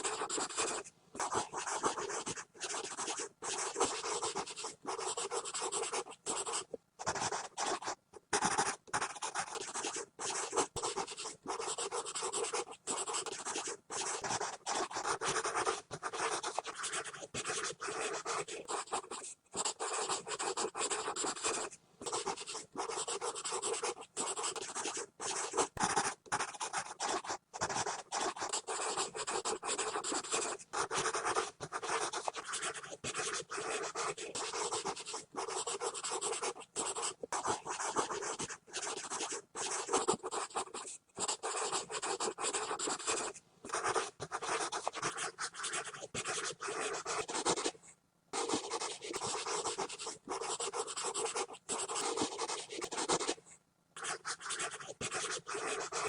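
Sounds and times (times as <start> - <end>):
pencil scribbling on paper: 0.0 - 47.8, 48.4 - 53.4, 54.0 - 56.0.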